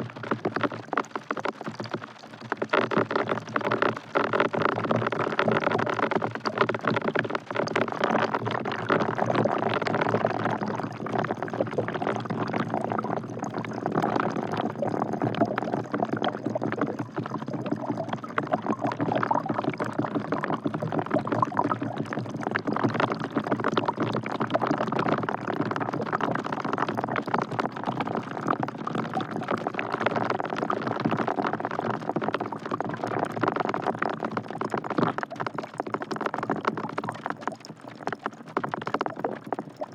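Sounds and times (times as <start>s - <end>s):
rain dripping into a bucket: 0.0s - 39.9s.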